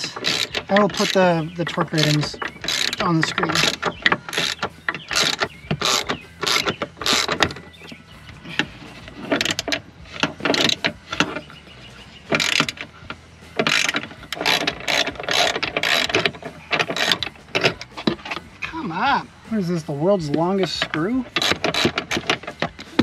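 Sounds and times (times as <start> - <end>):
ratchet wrench clicking: 0.0 - 7.7, 8.5 - 11.4, 12.3 - 18.6, 20.6 - 23.0.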